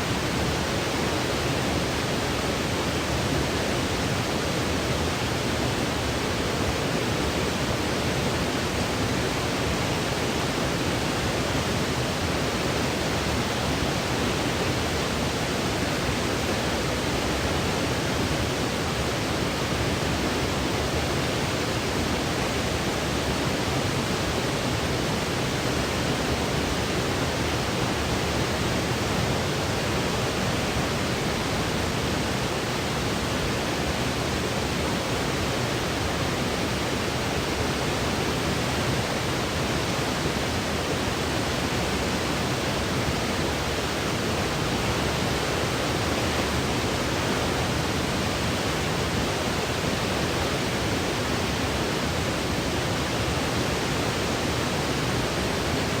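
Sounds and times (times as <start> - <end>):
electronic white noise hiss: 0.0 - 56.0.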